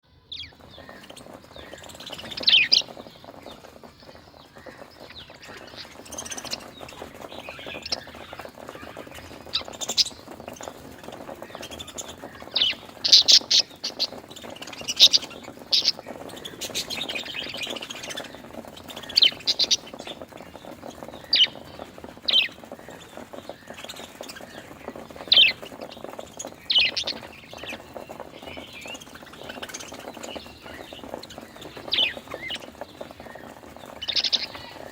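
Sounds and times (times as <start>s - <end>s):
budgerigars chattering: 0.4s - 34.9s.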